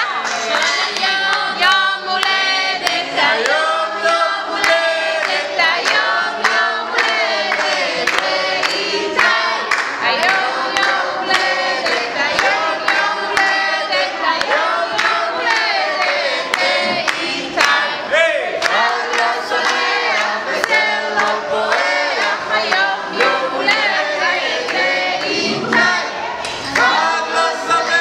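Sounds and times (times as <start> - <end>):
group singing a celebration song: 0.0 - 28.0
hands clapping along: 0.0 - 28.0.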